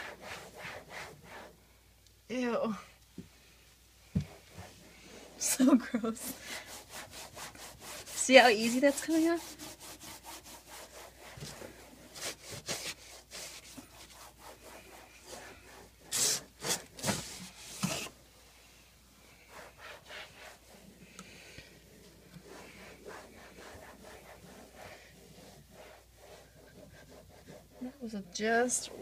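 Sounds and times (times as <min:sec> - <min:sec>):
glove rubbing strokes: 0:00.0 - 0:01.7, 0:04.0 - 0:29.0.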